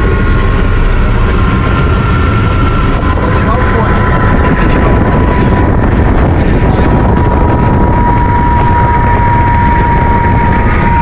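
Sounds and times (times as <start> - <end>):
helicopter rotor and engine rumble: 0.0 - 11.0
high whine: 0.0 - 11.0.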